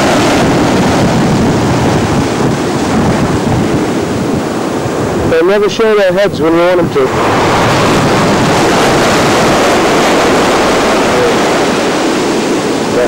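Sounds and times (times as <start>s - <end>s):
waves washing on a beach: 0.0s - 13.0s.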